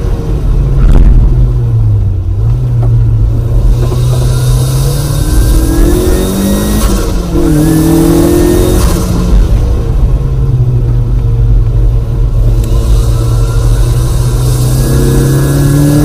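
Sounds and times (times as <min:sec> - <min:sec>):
car engine accelerating: 0:00.0 - 0:16.0
rising whine: 0:00.0 - 0:16.0
wind and road hiss: 0:00.0 - 0:16.0.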